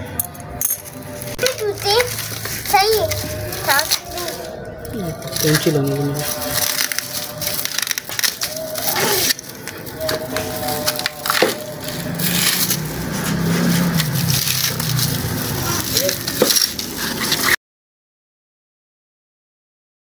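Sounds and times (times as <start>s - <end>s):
dry grass crackling and rustling: 0.6s - 17.6s.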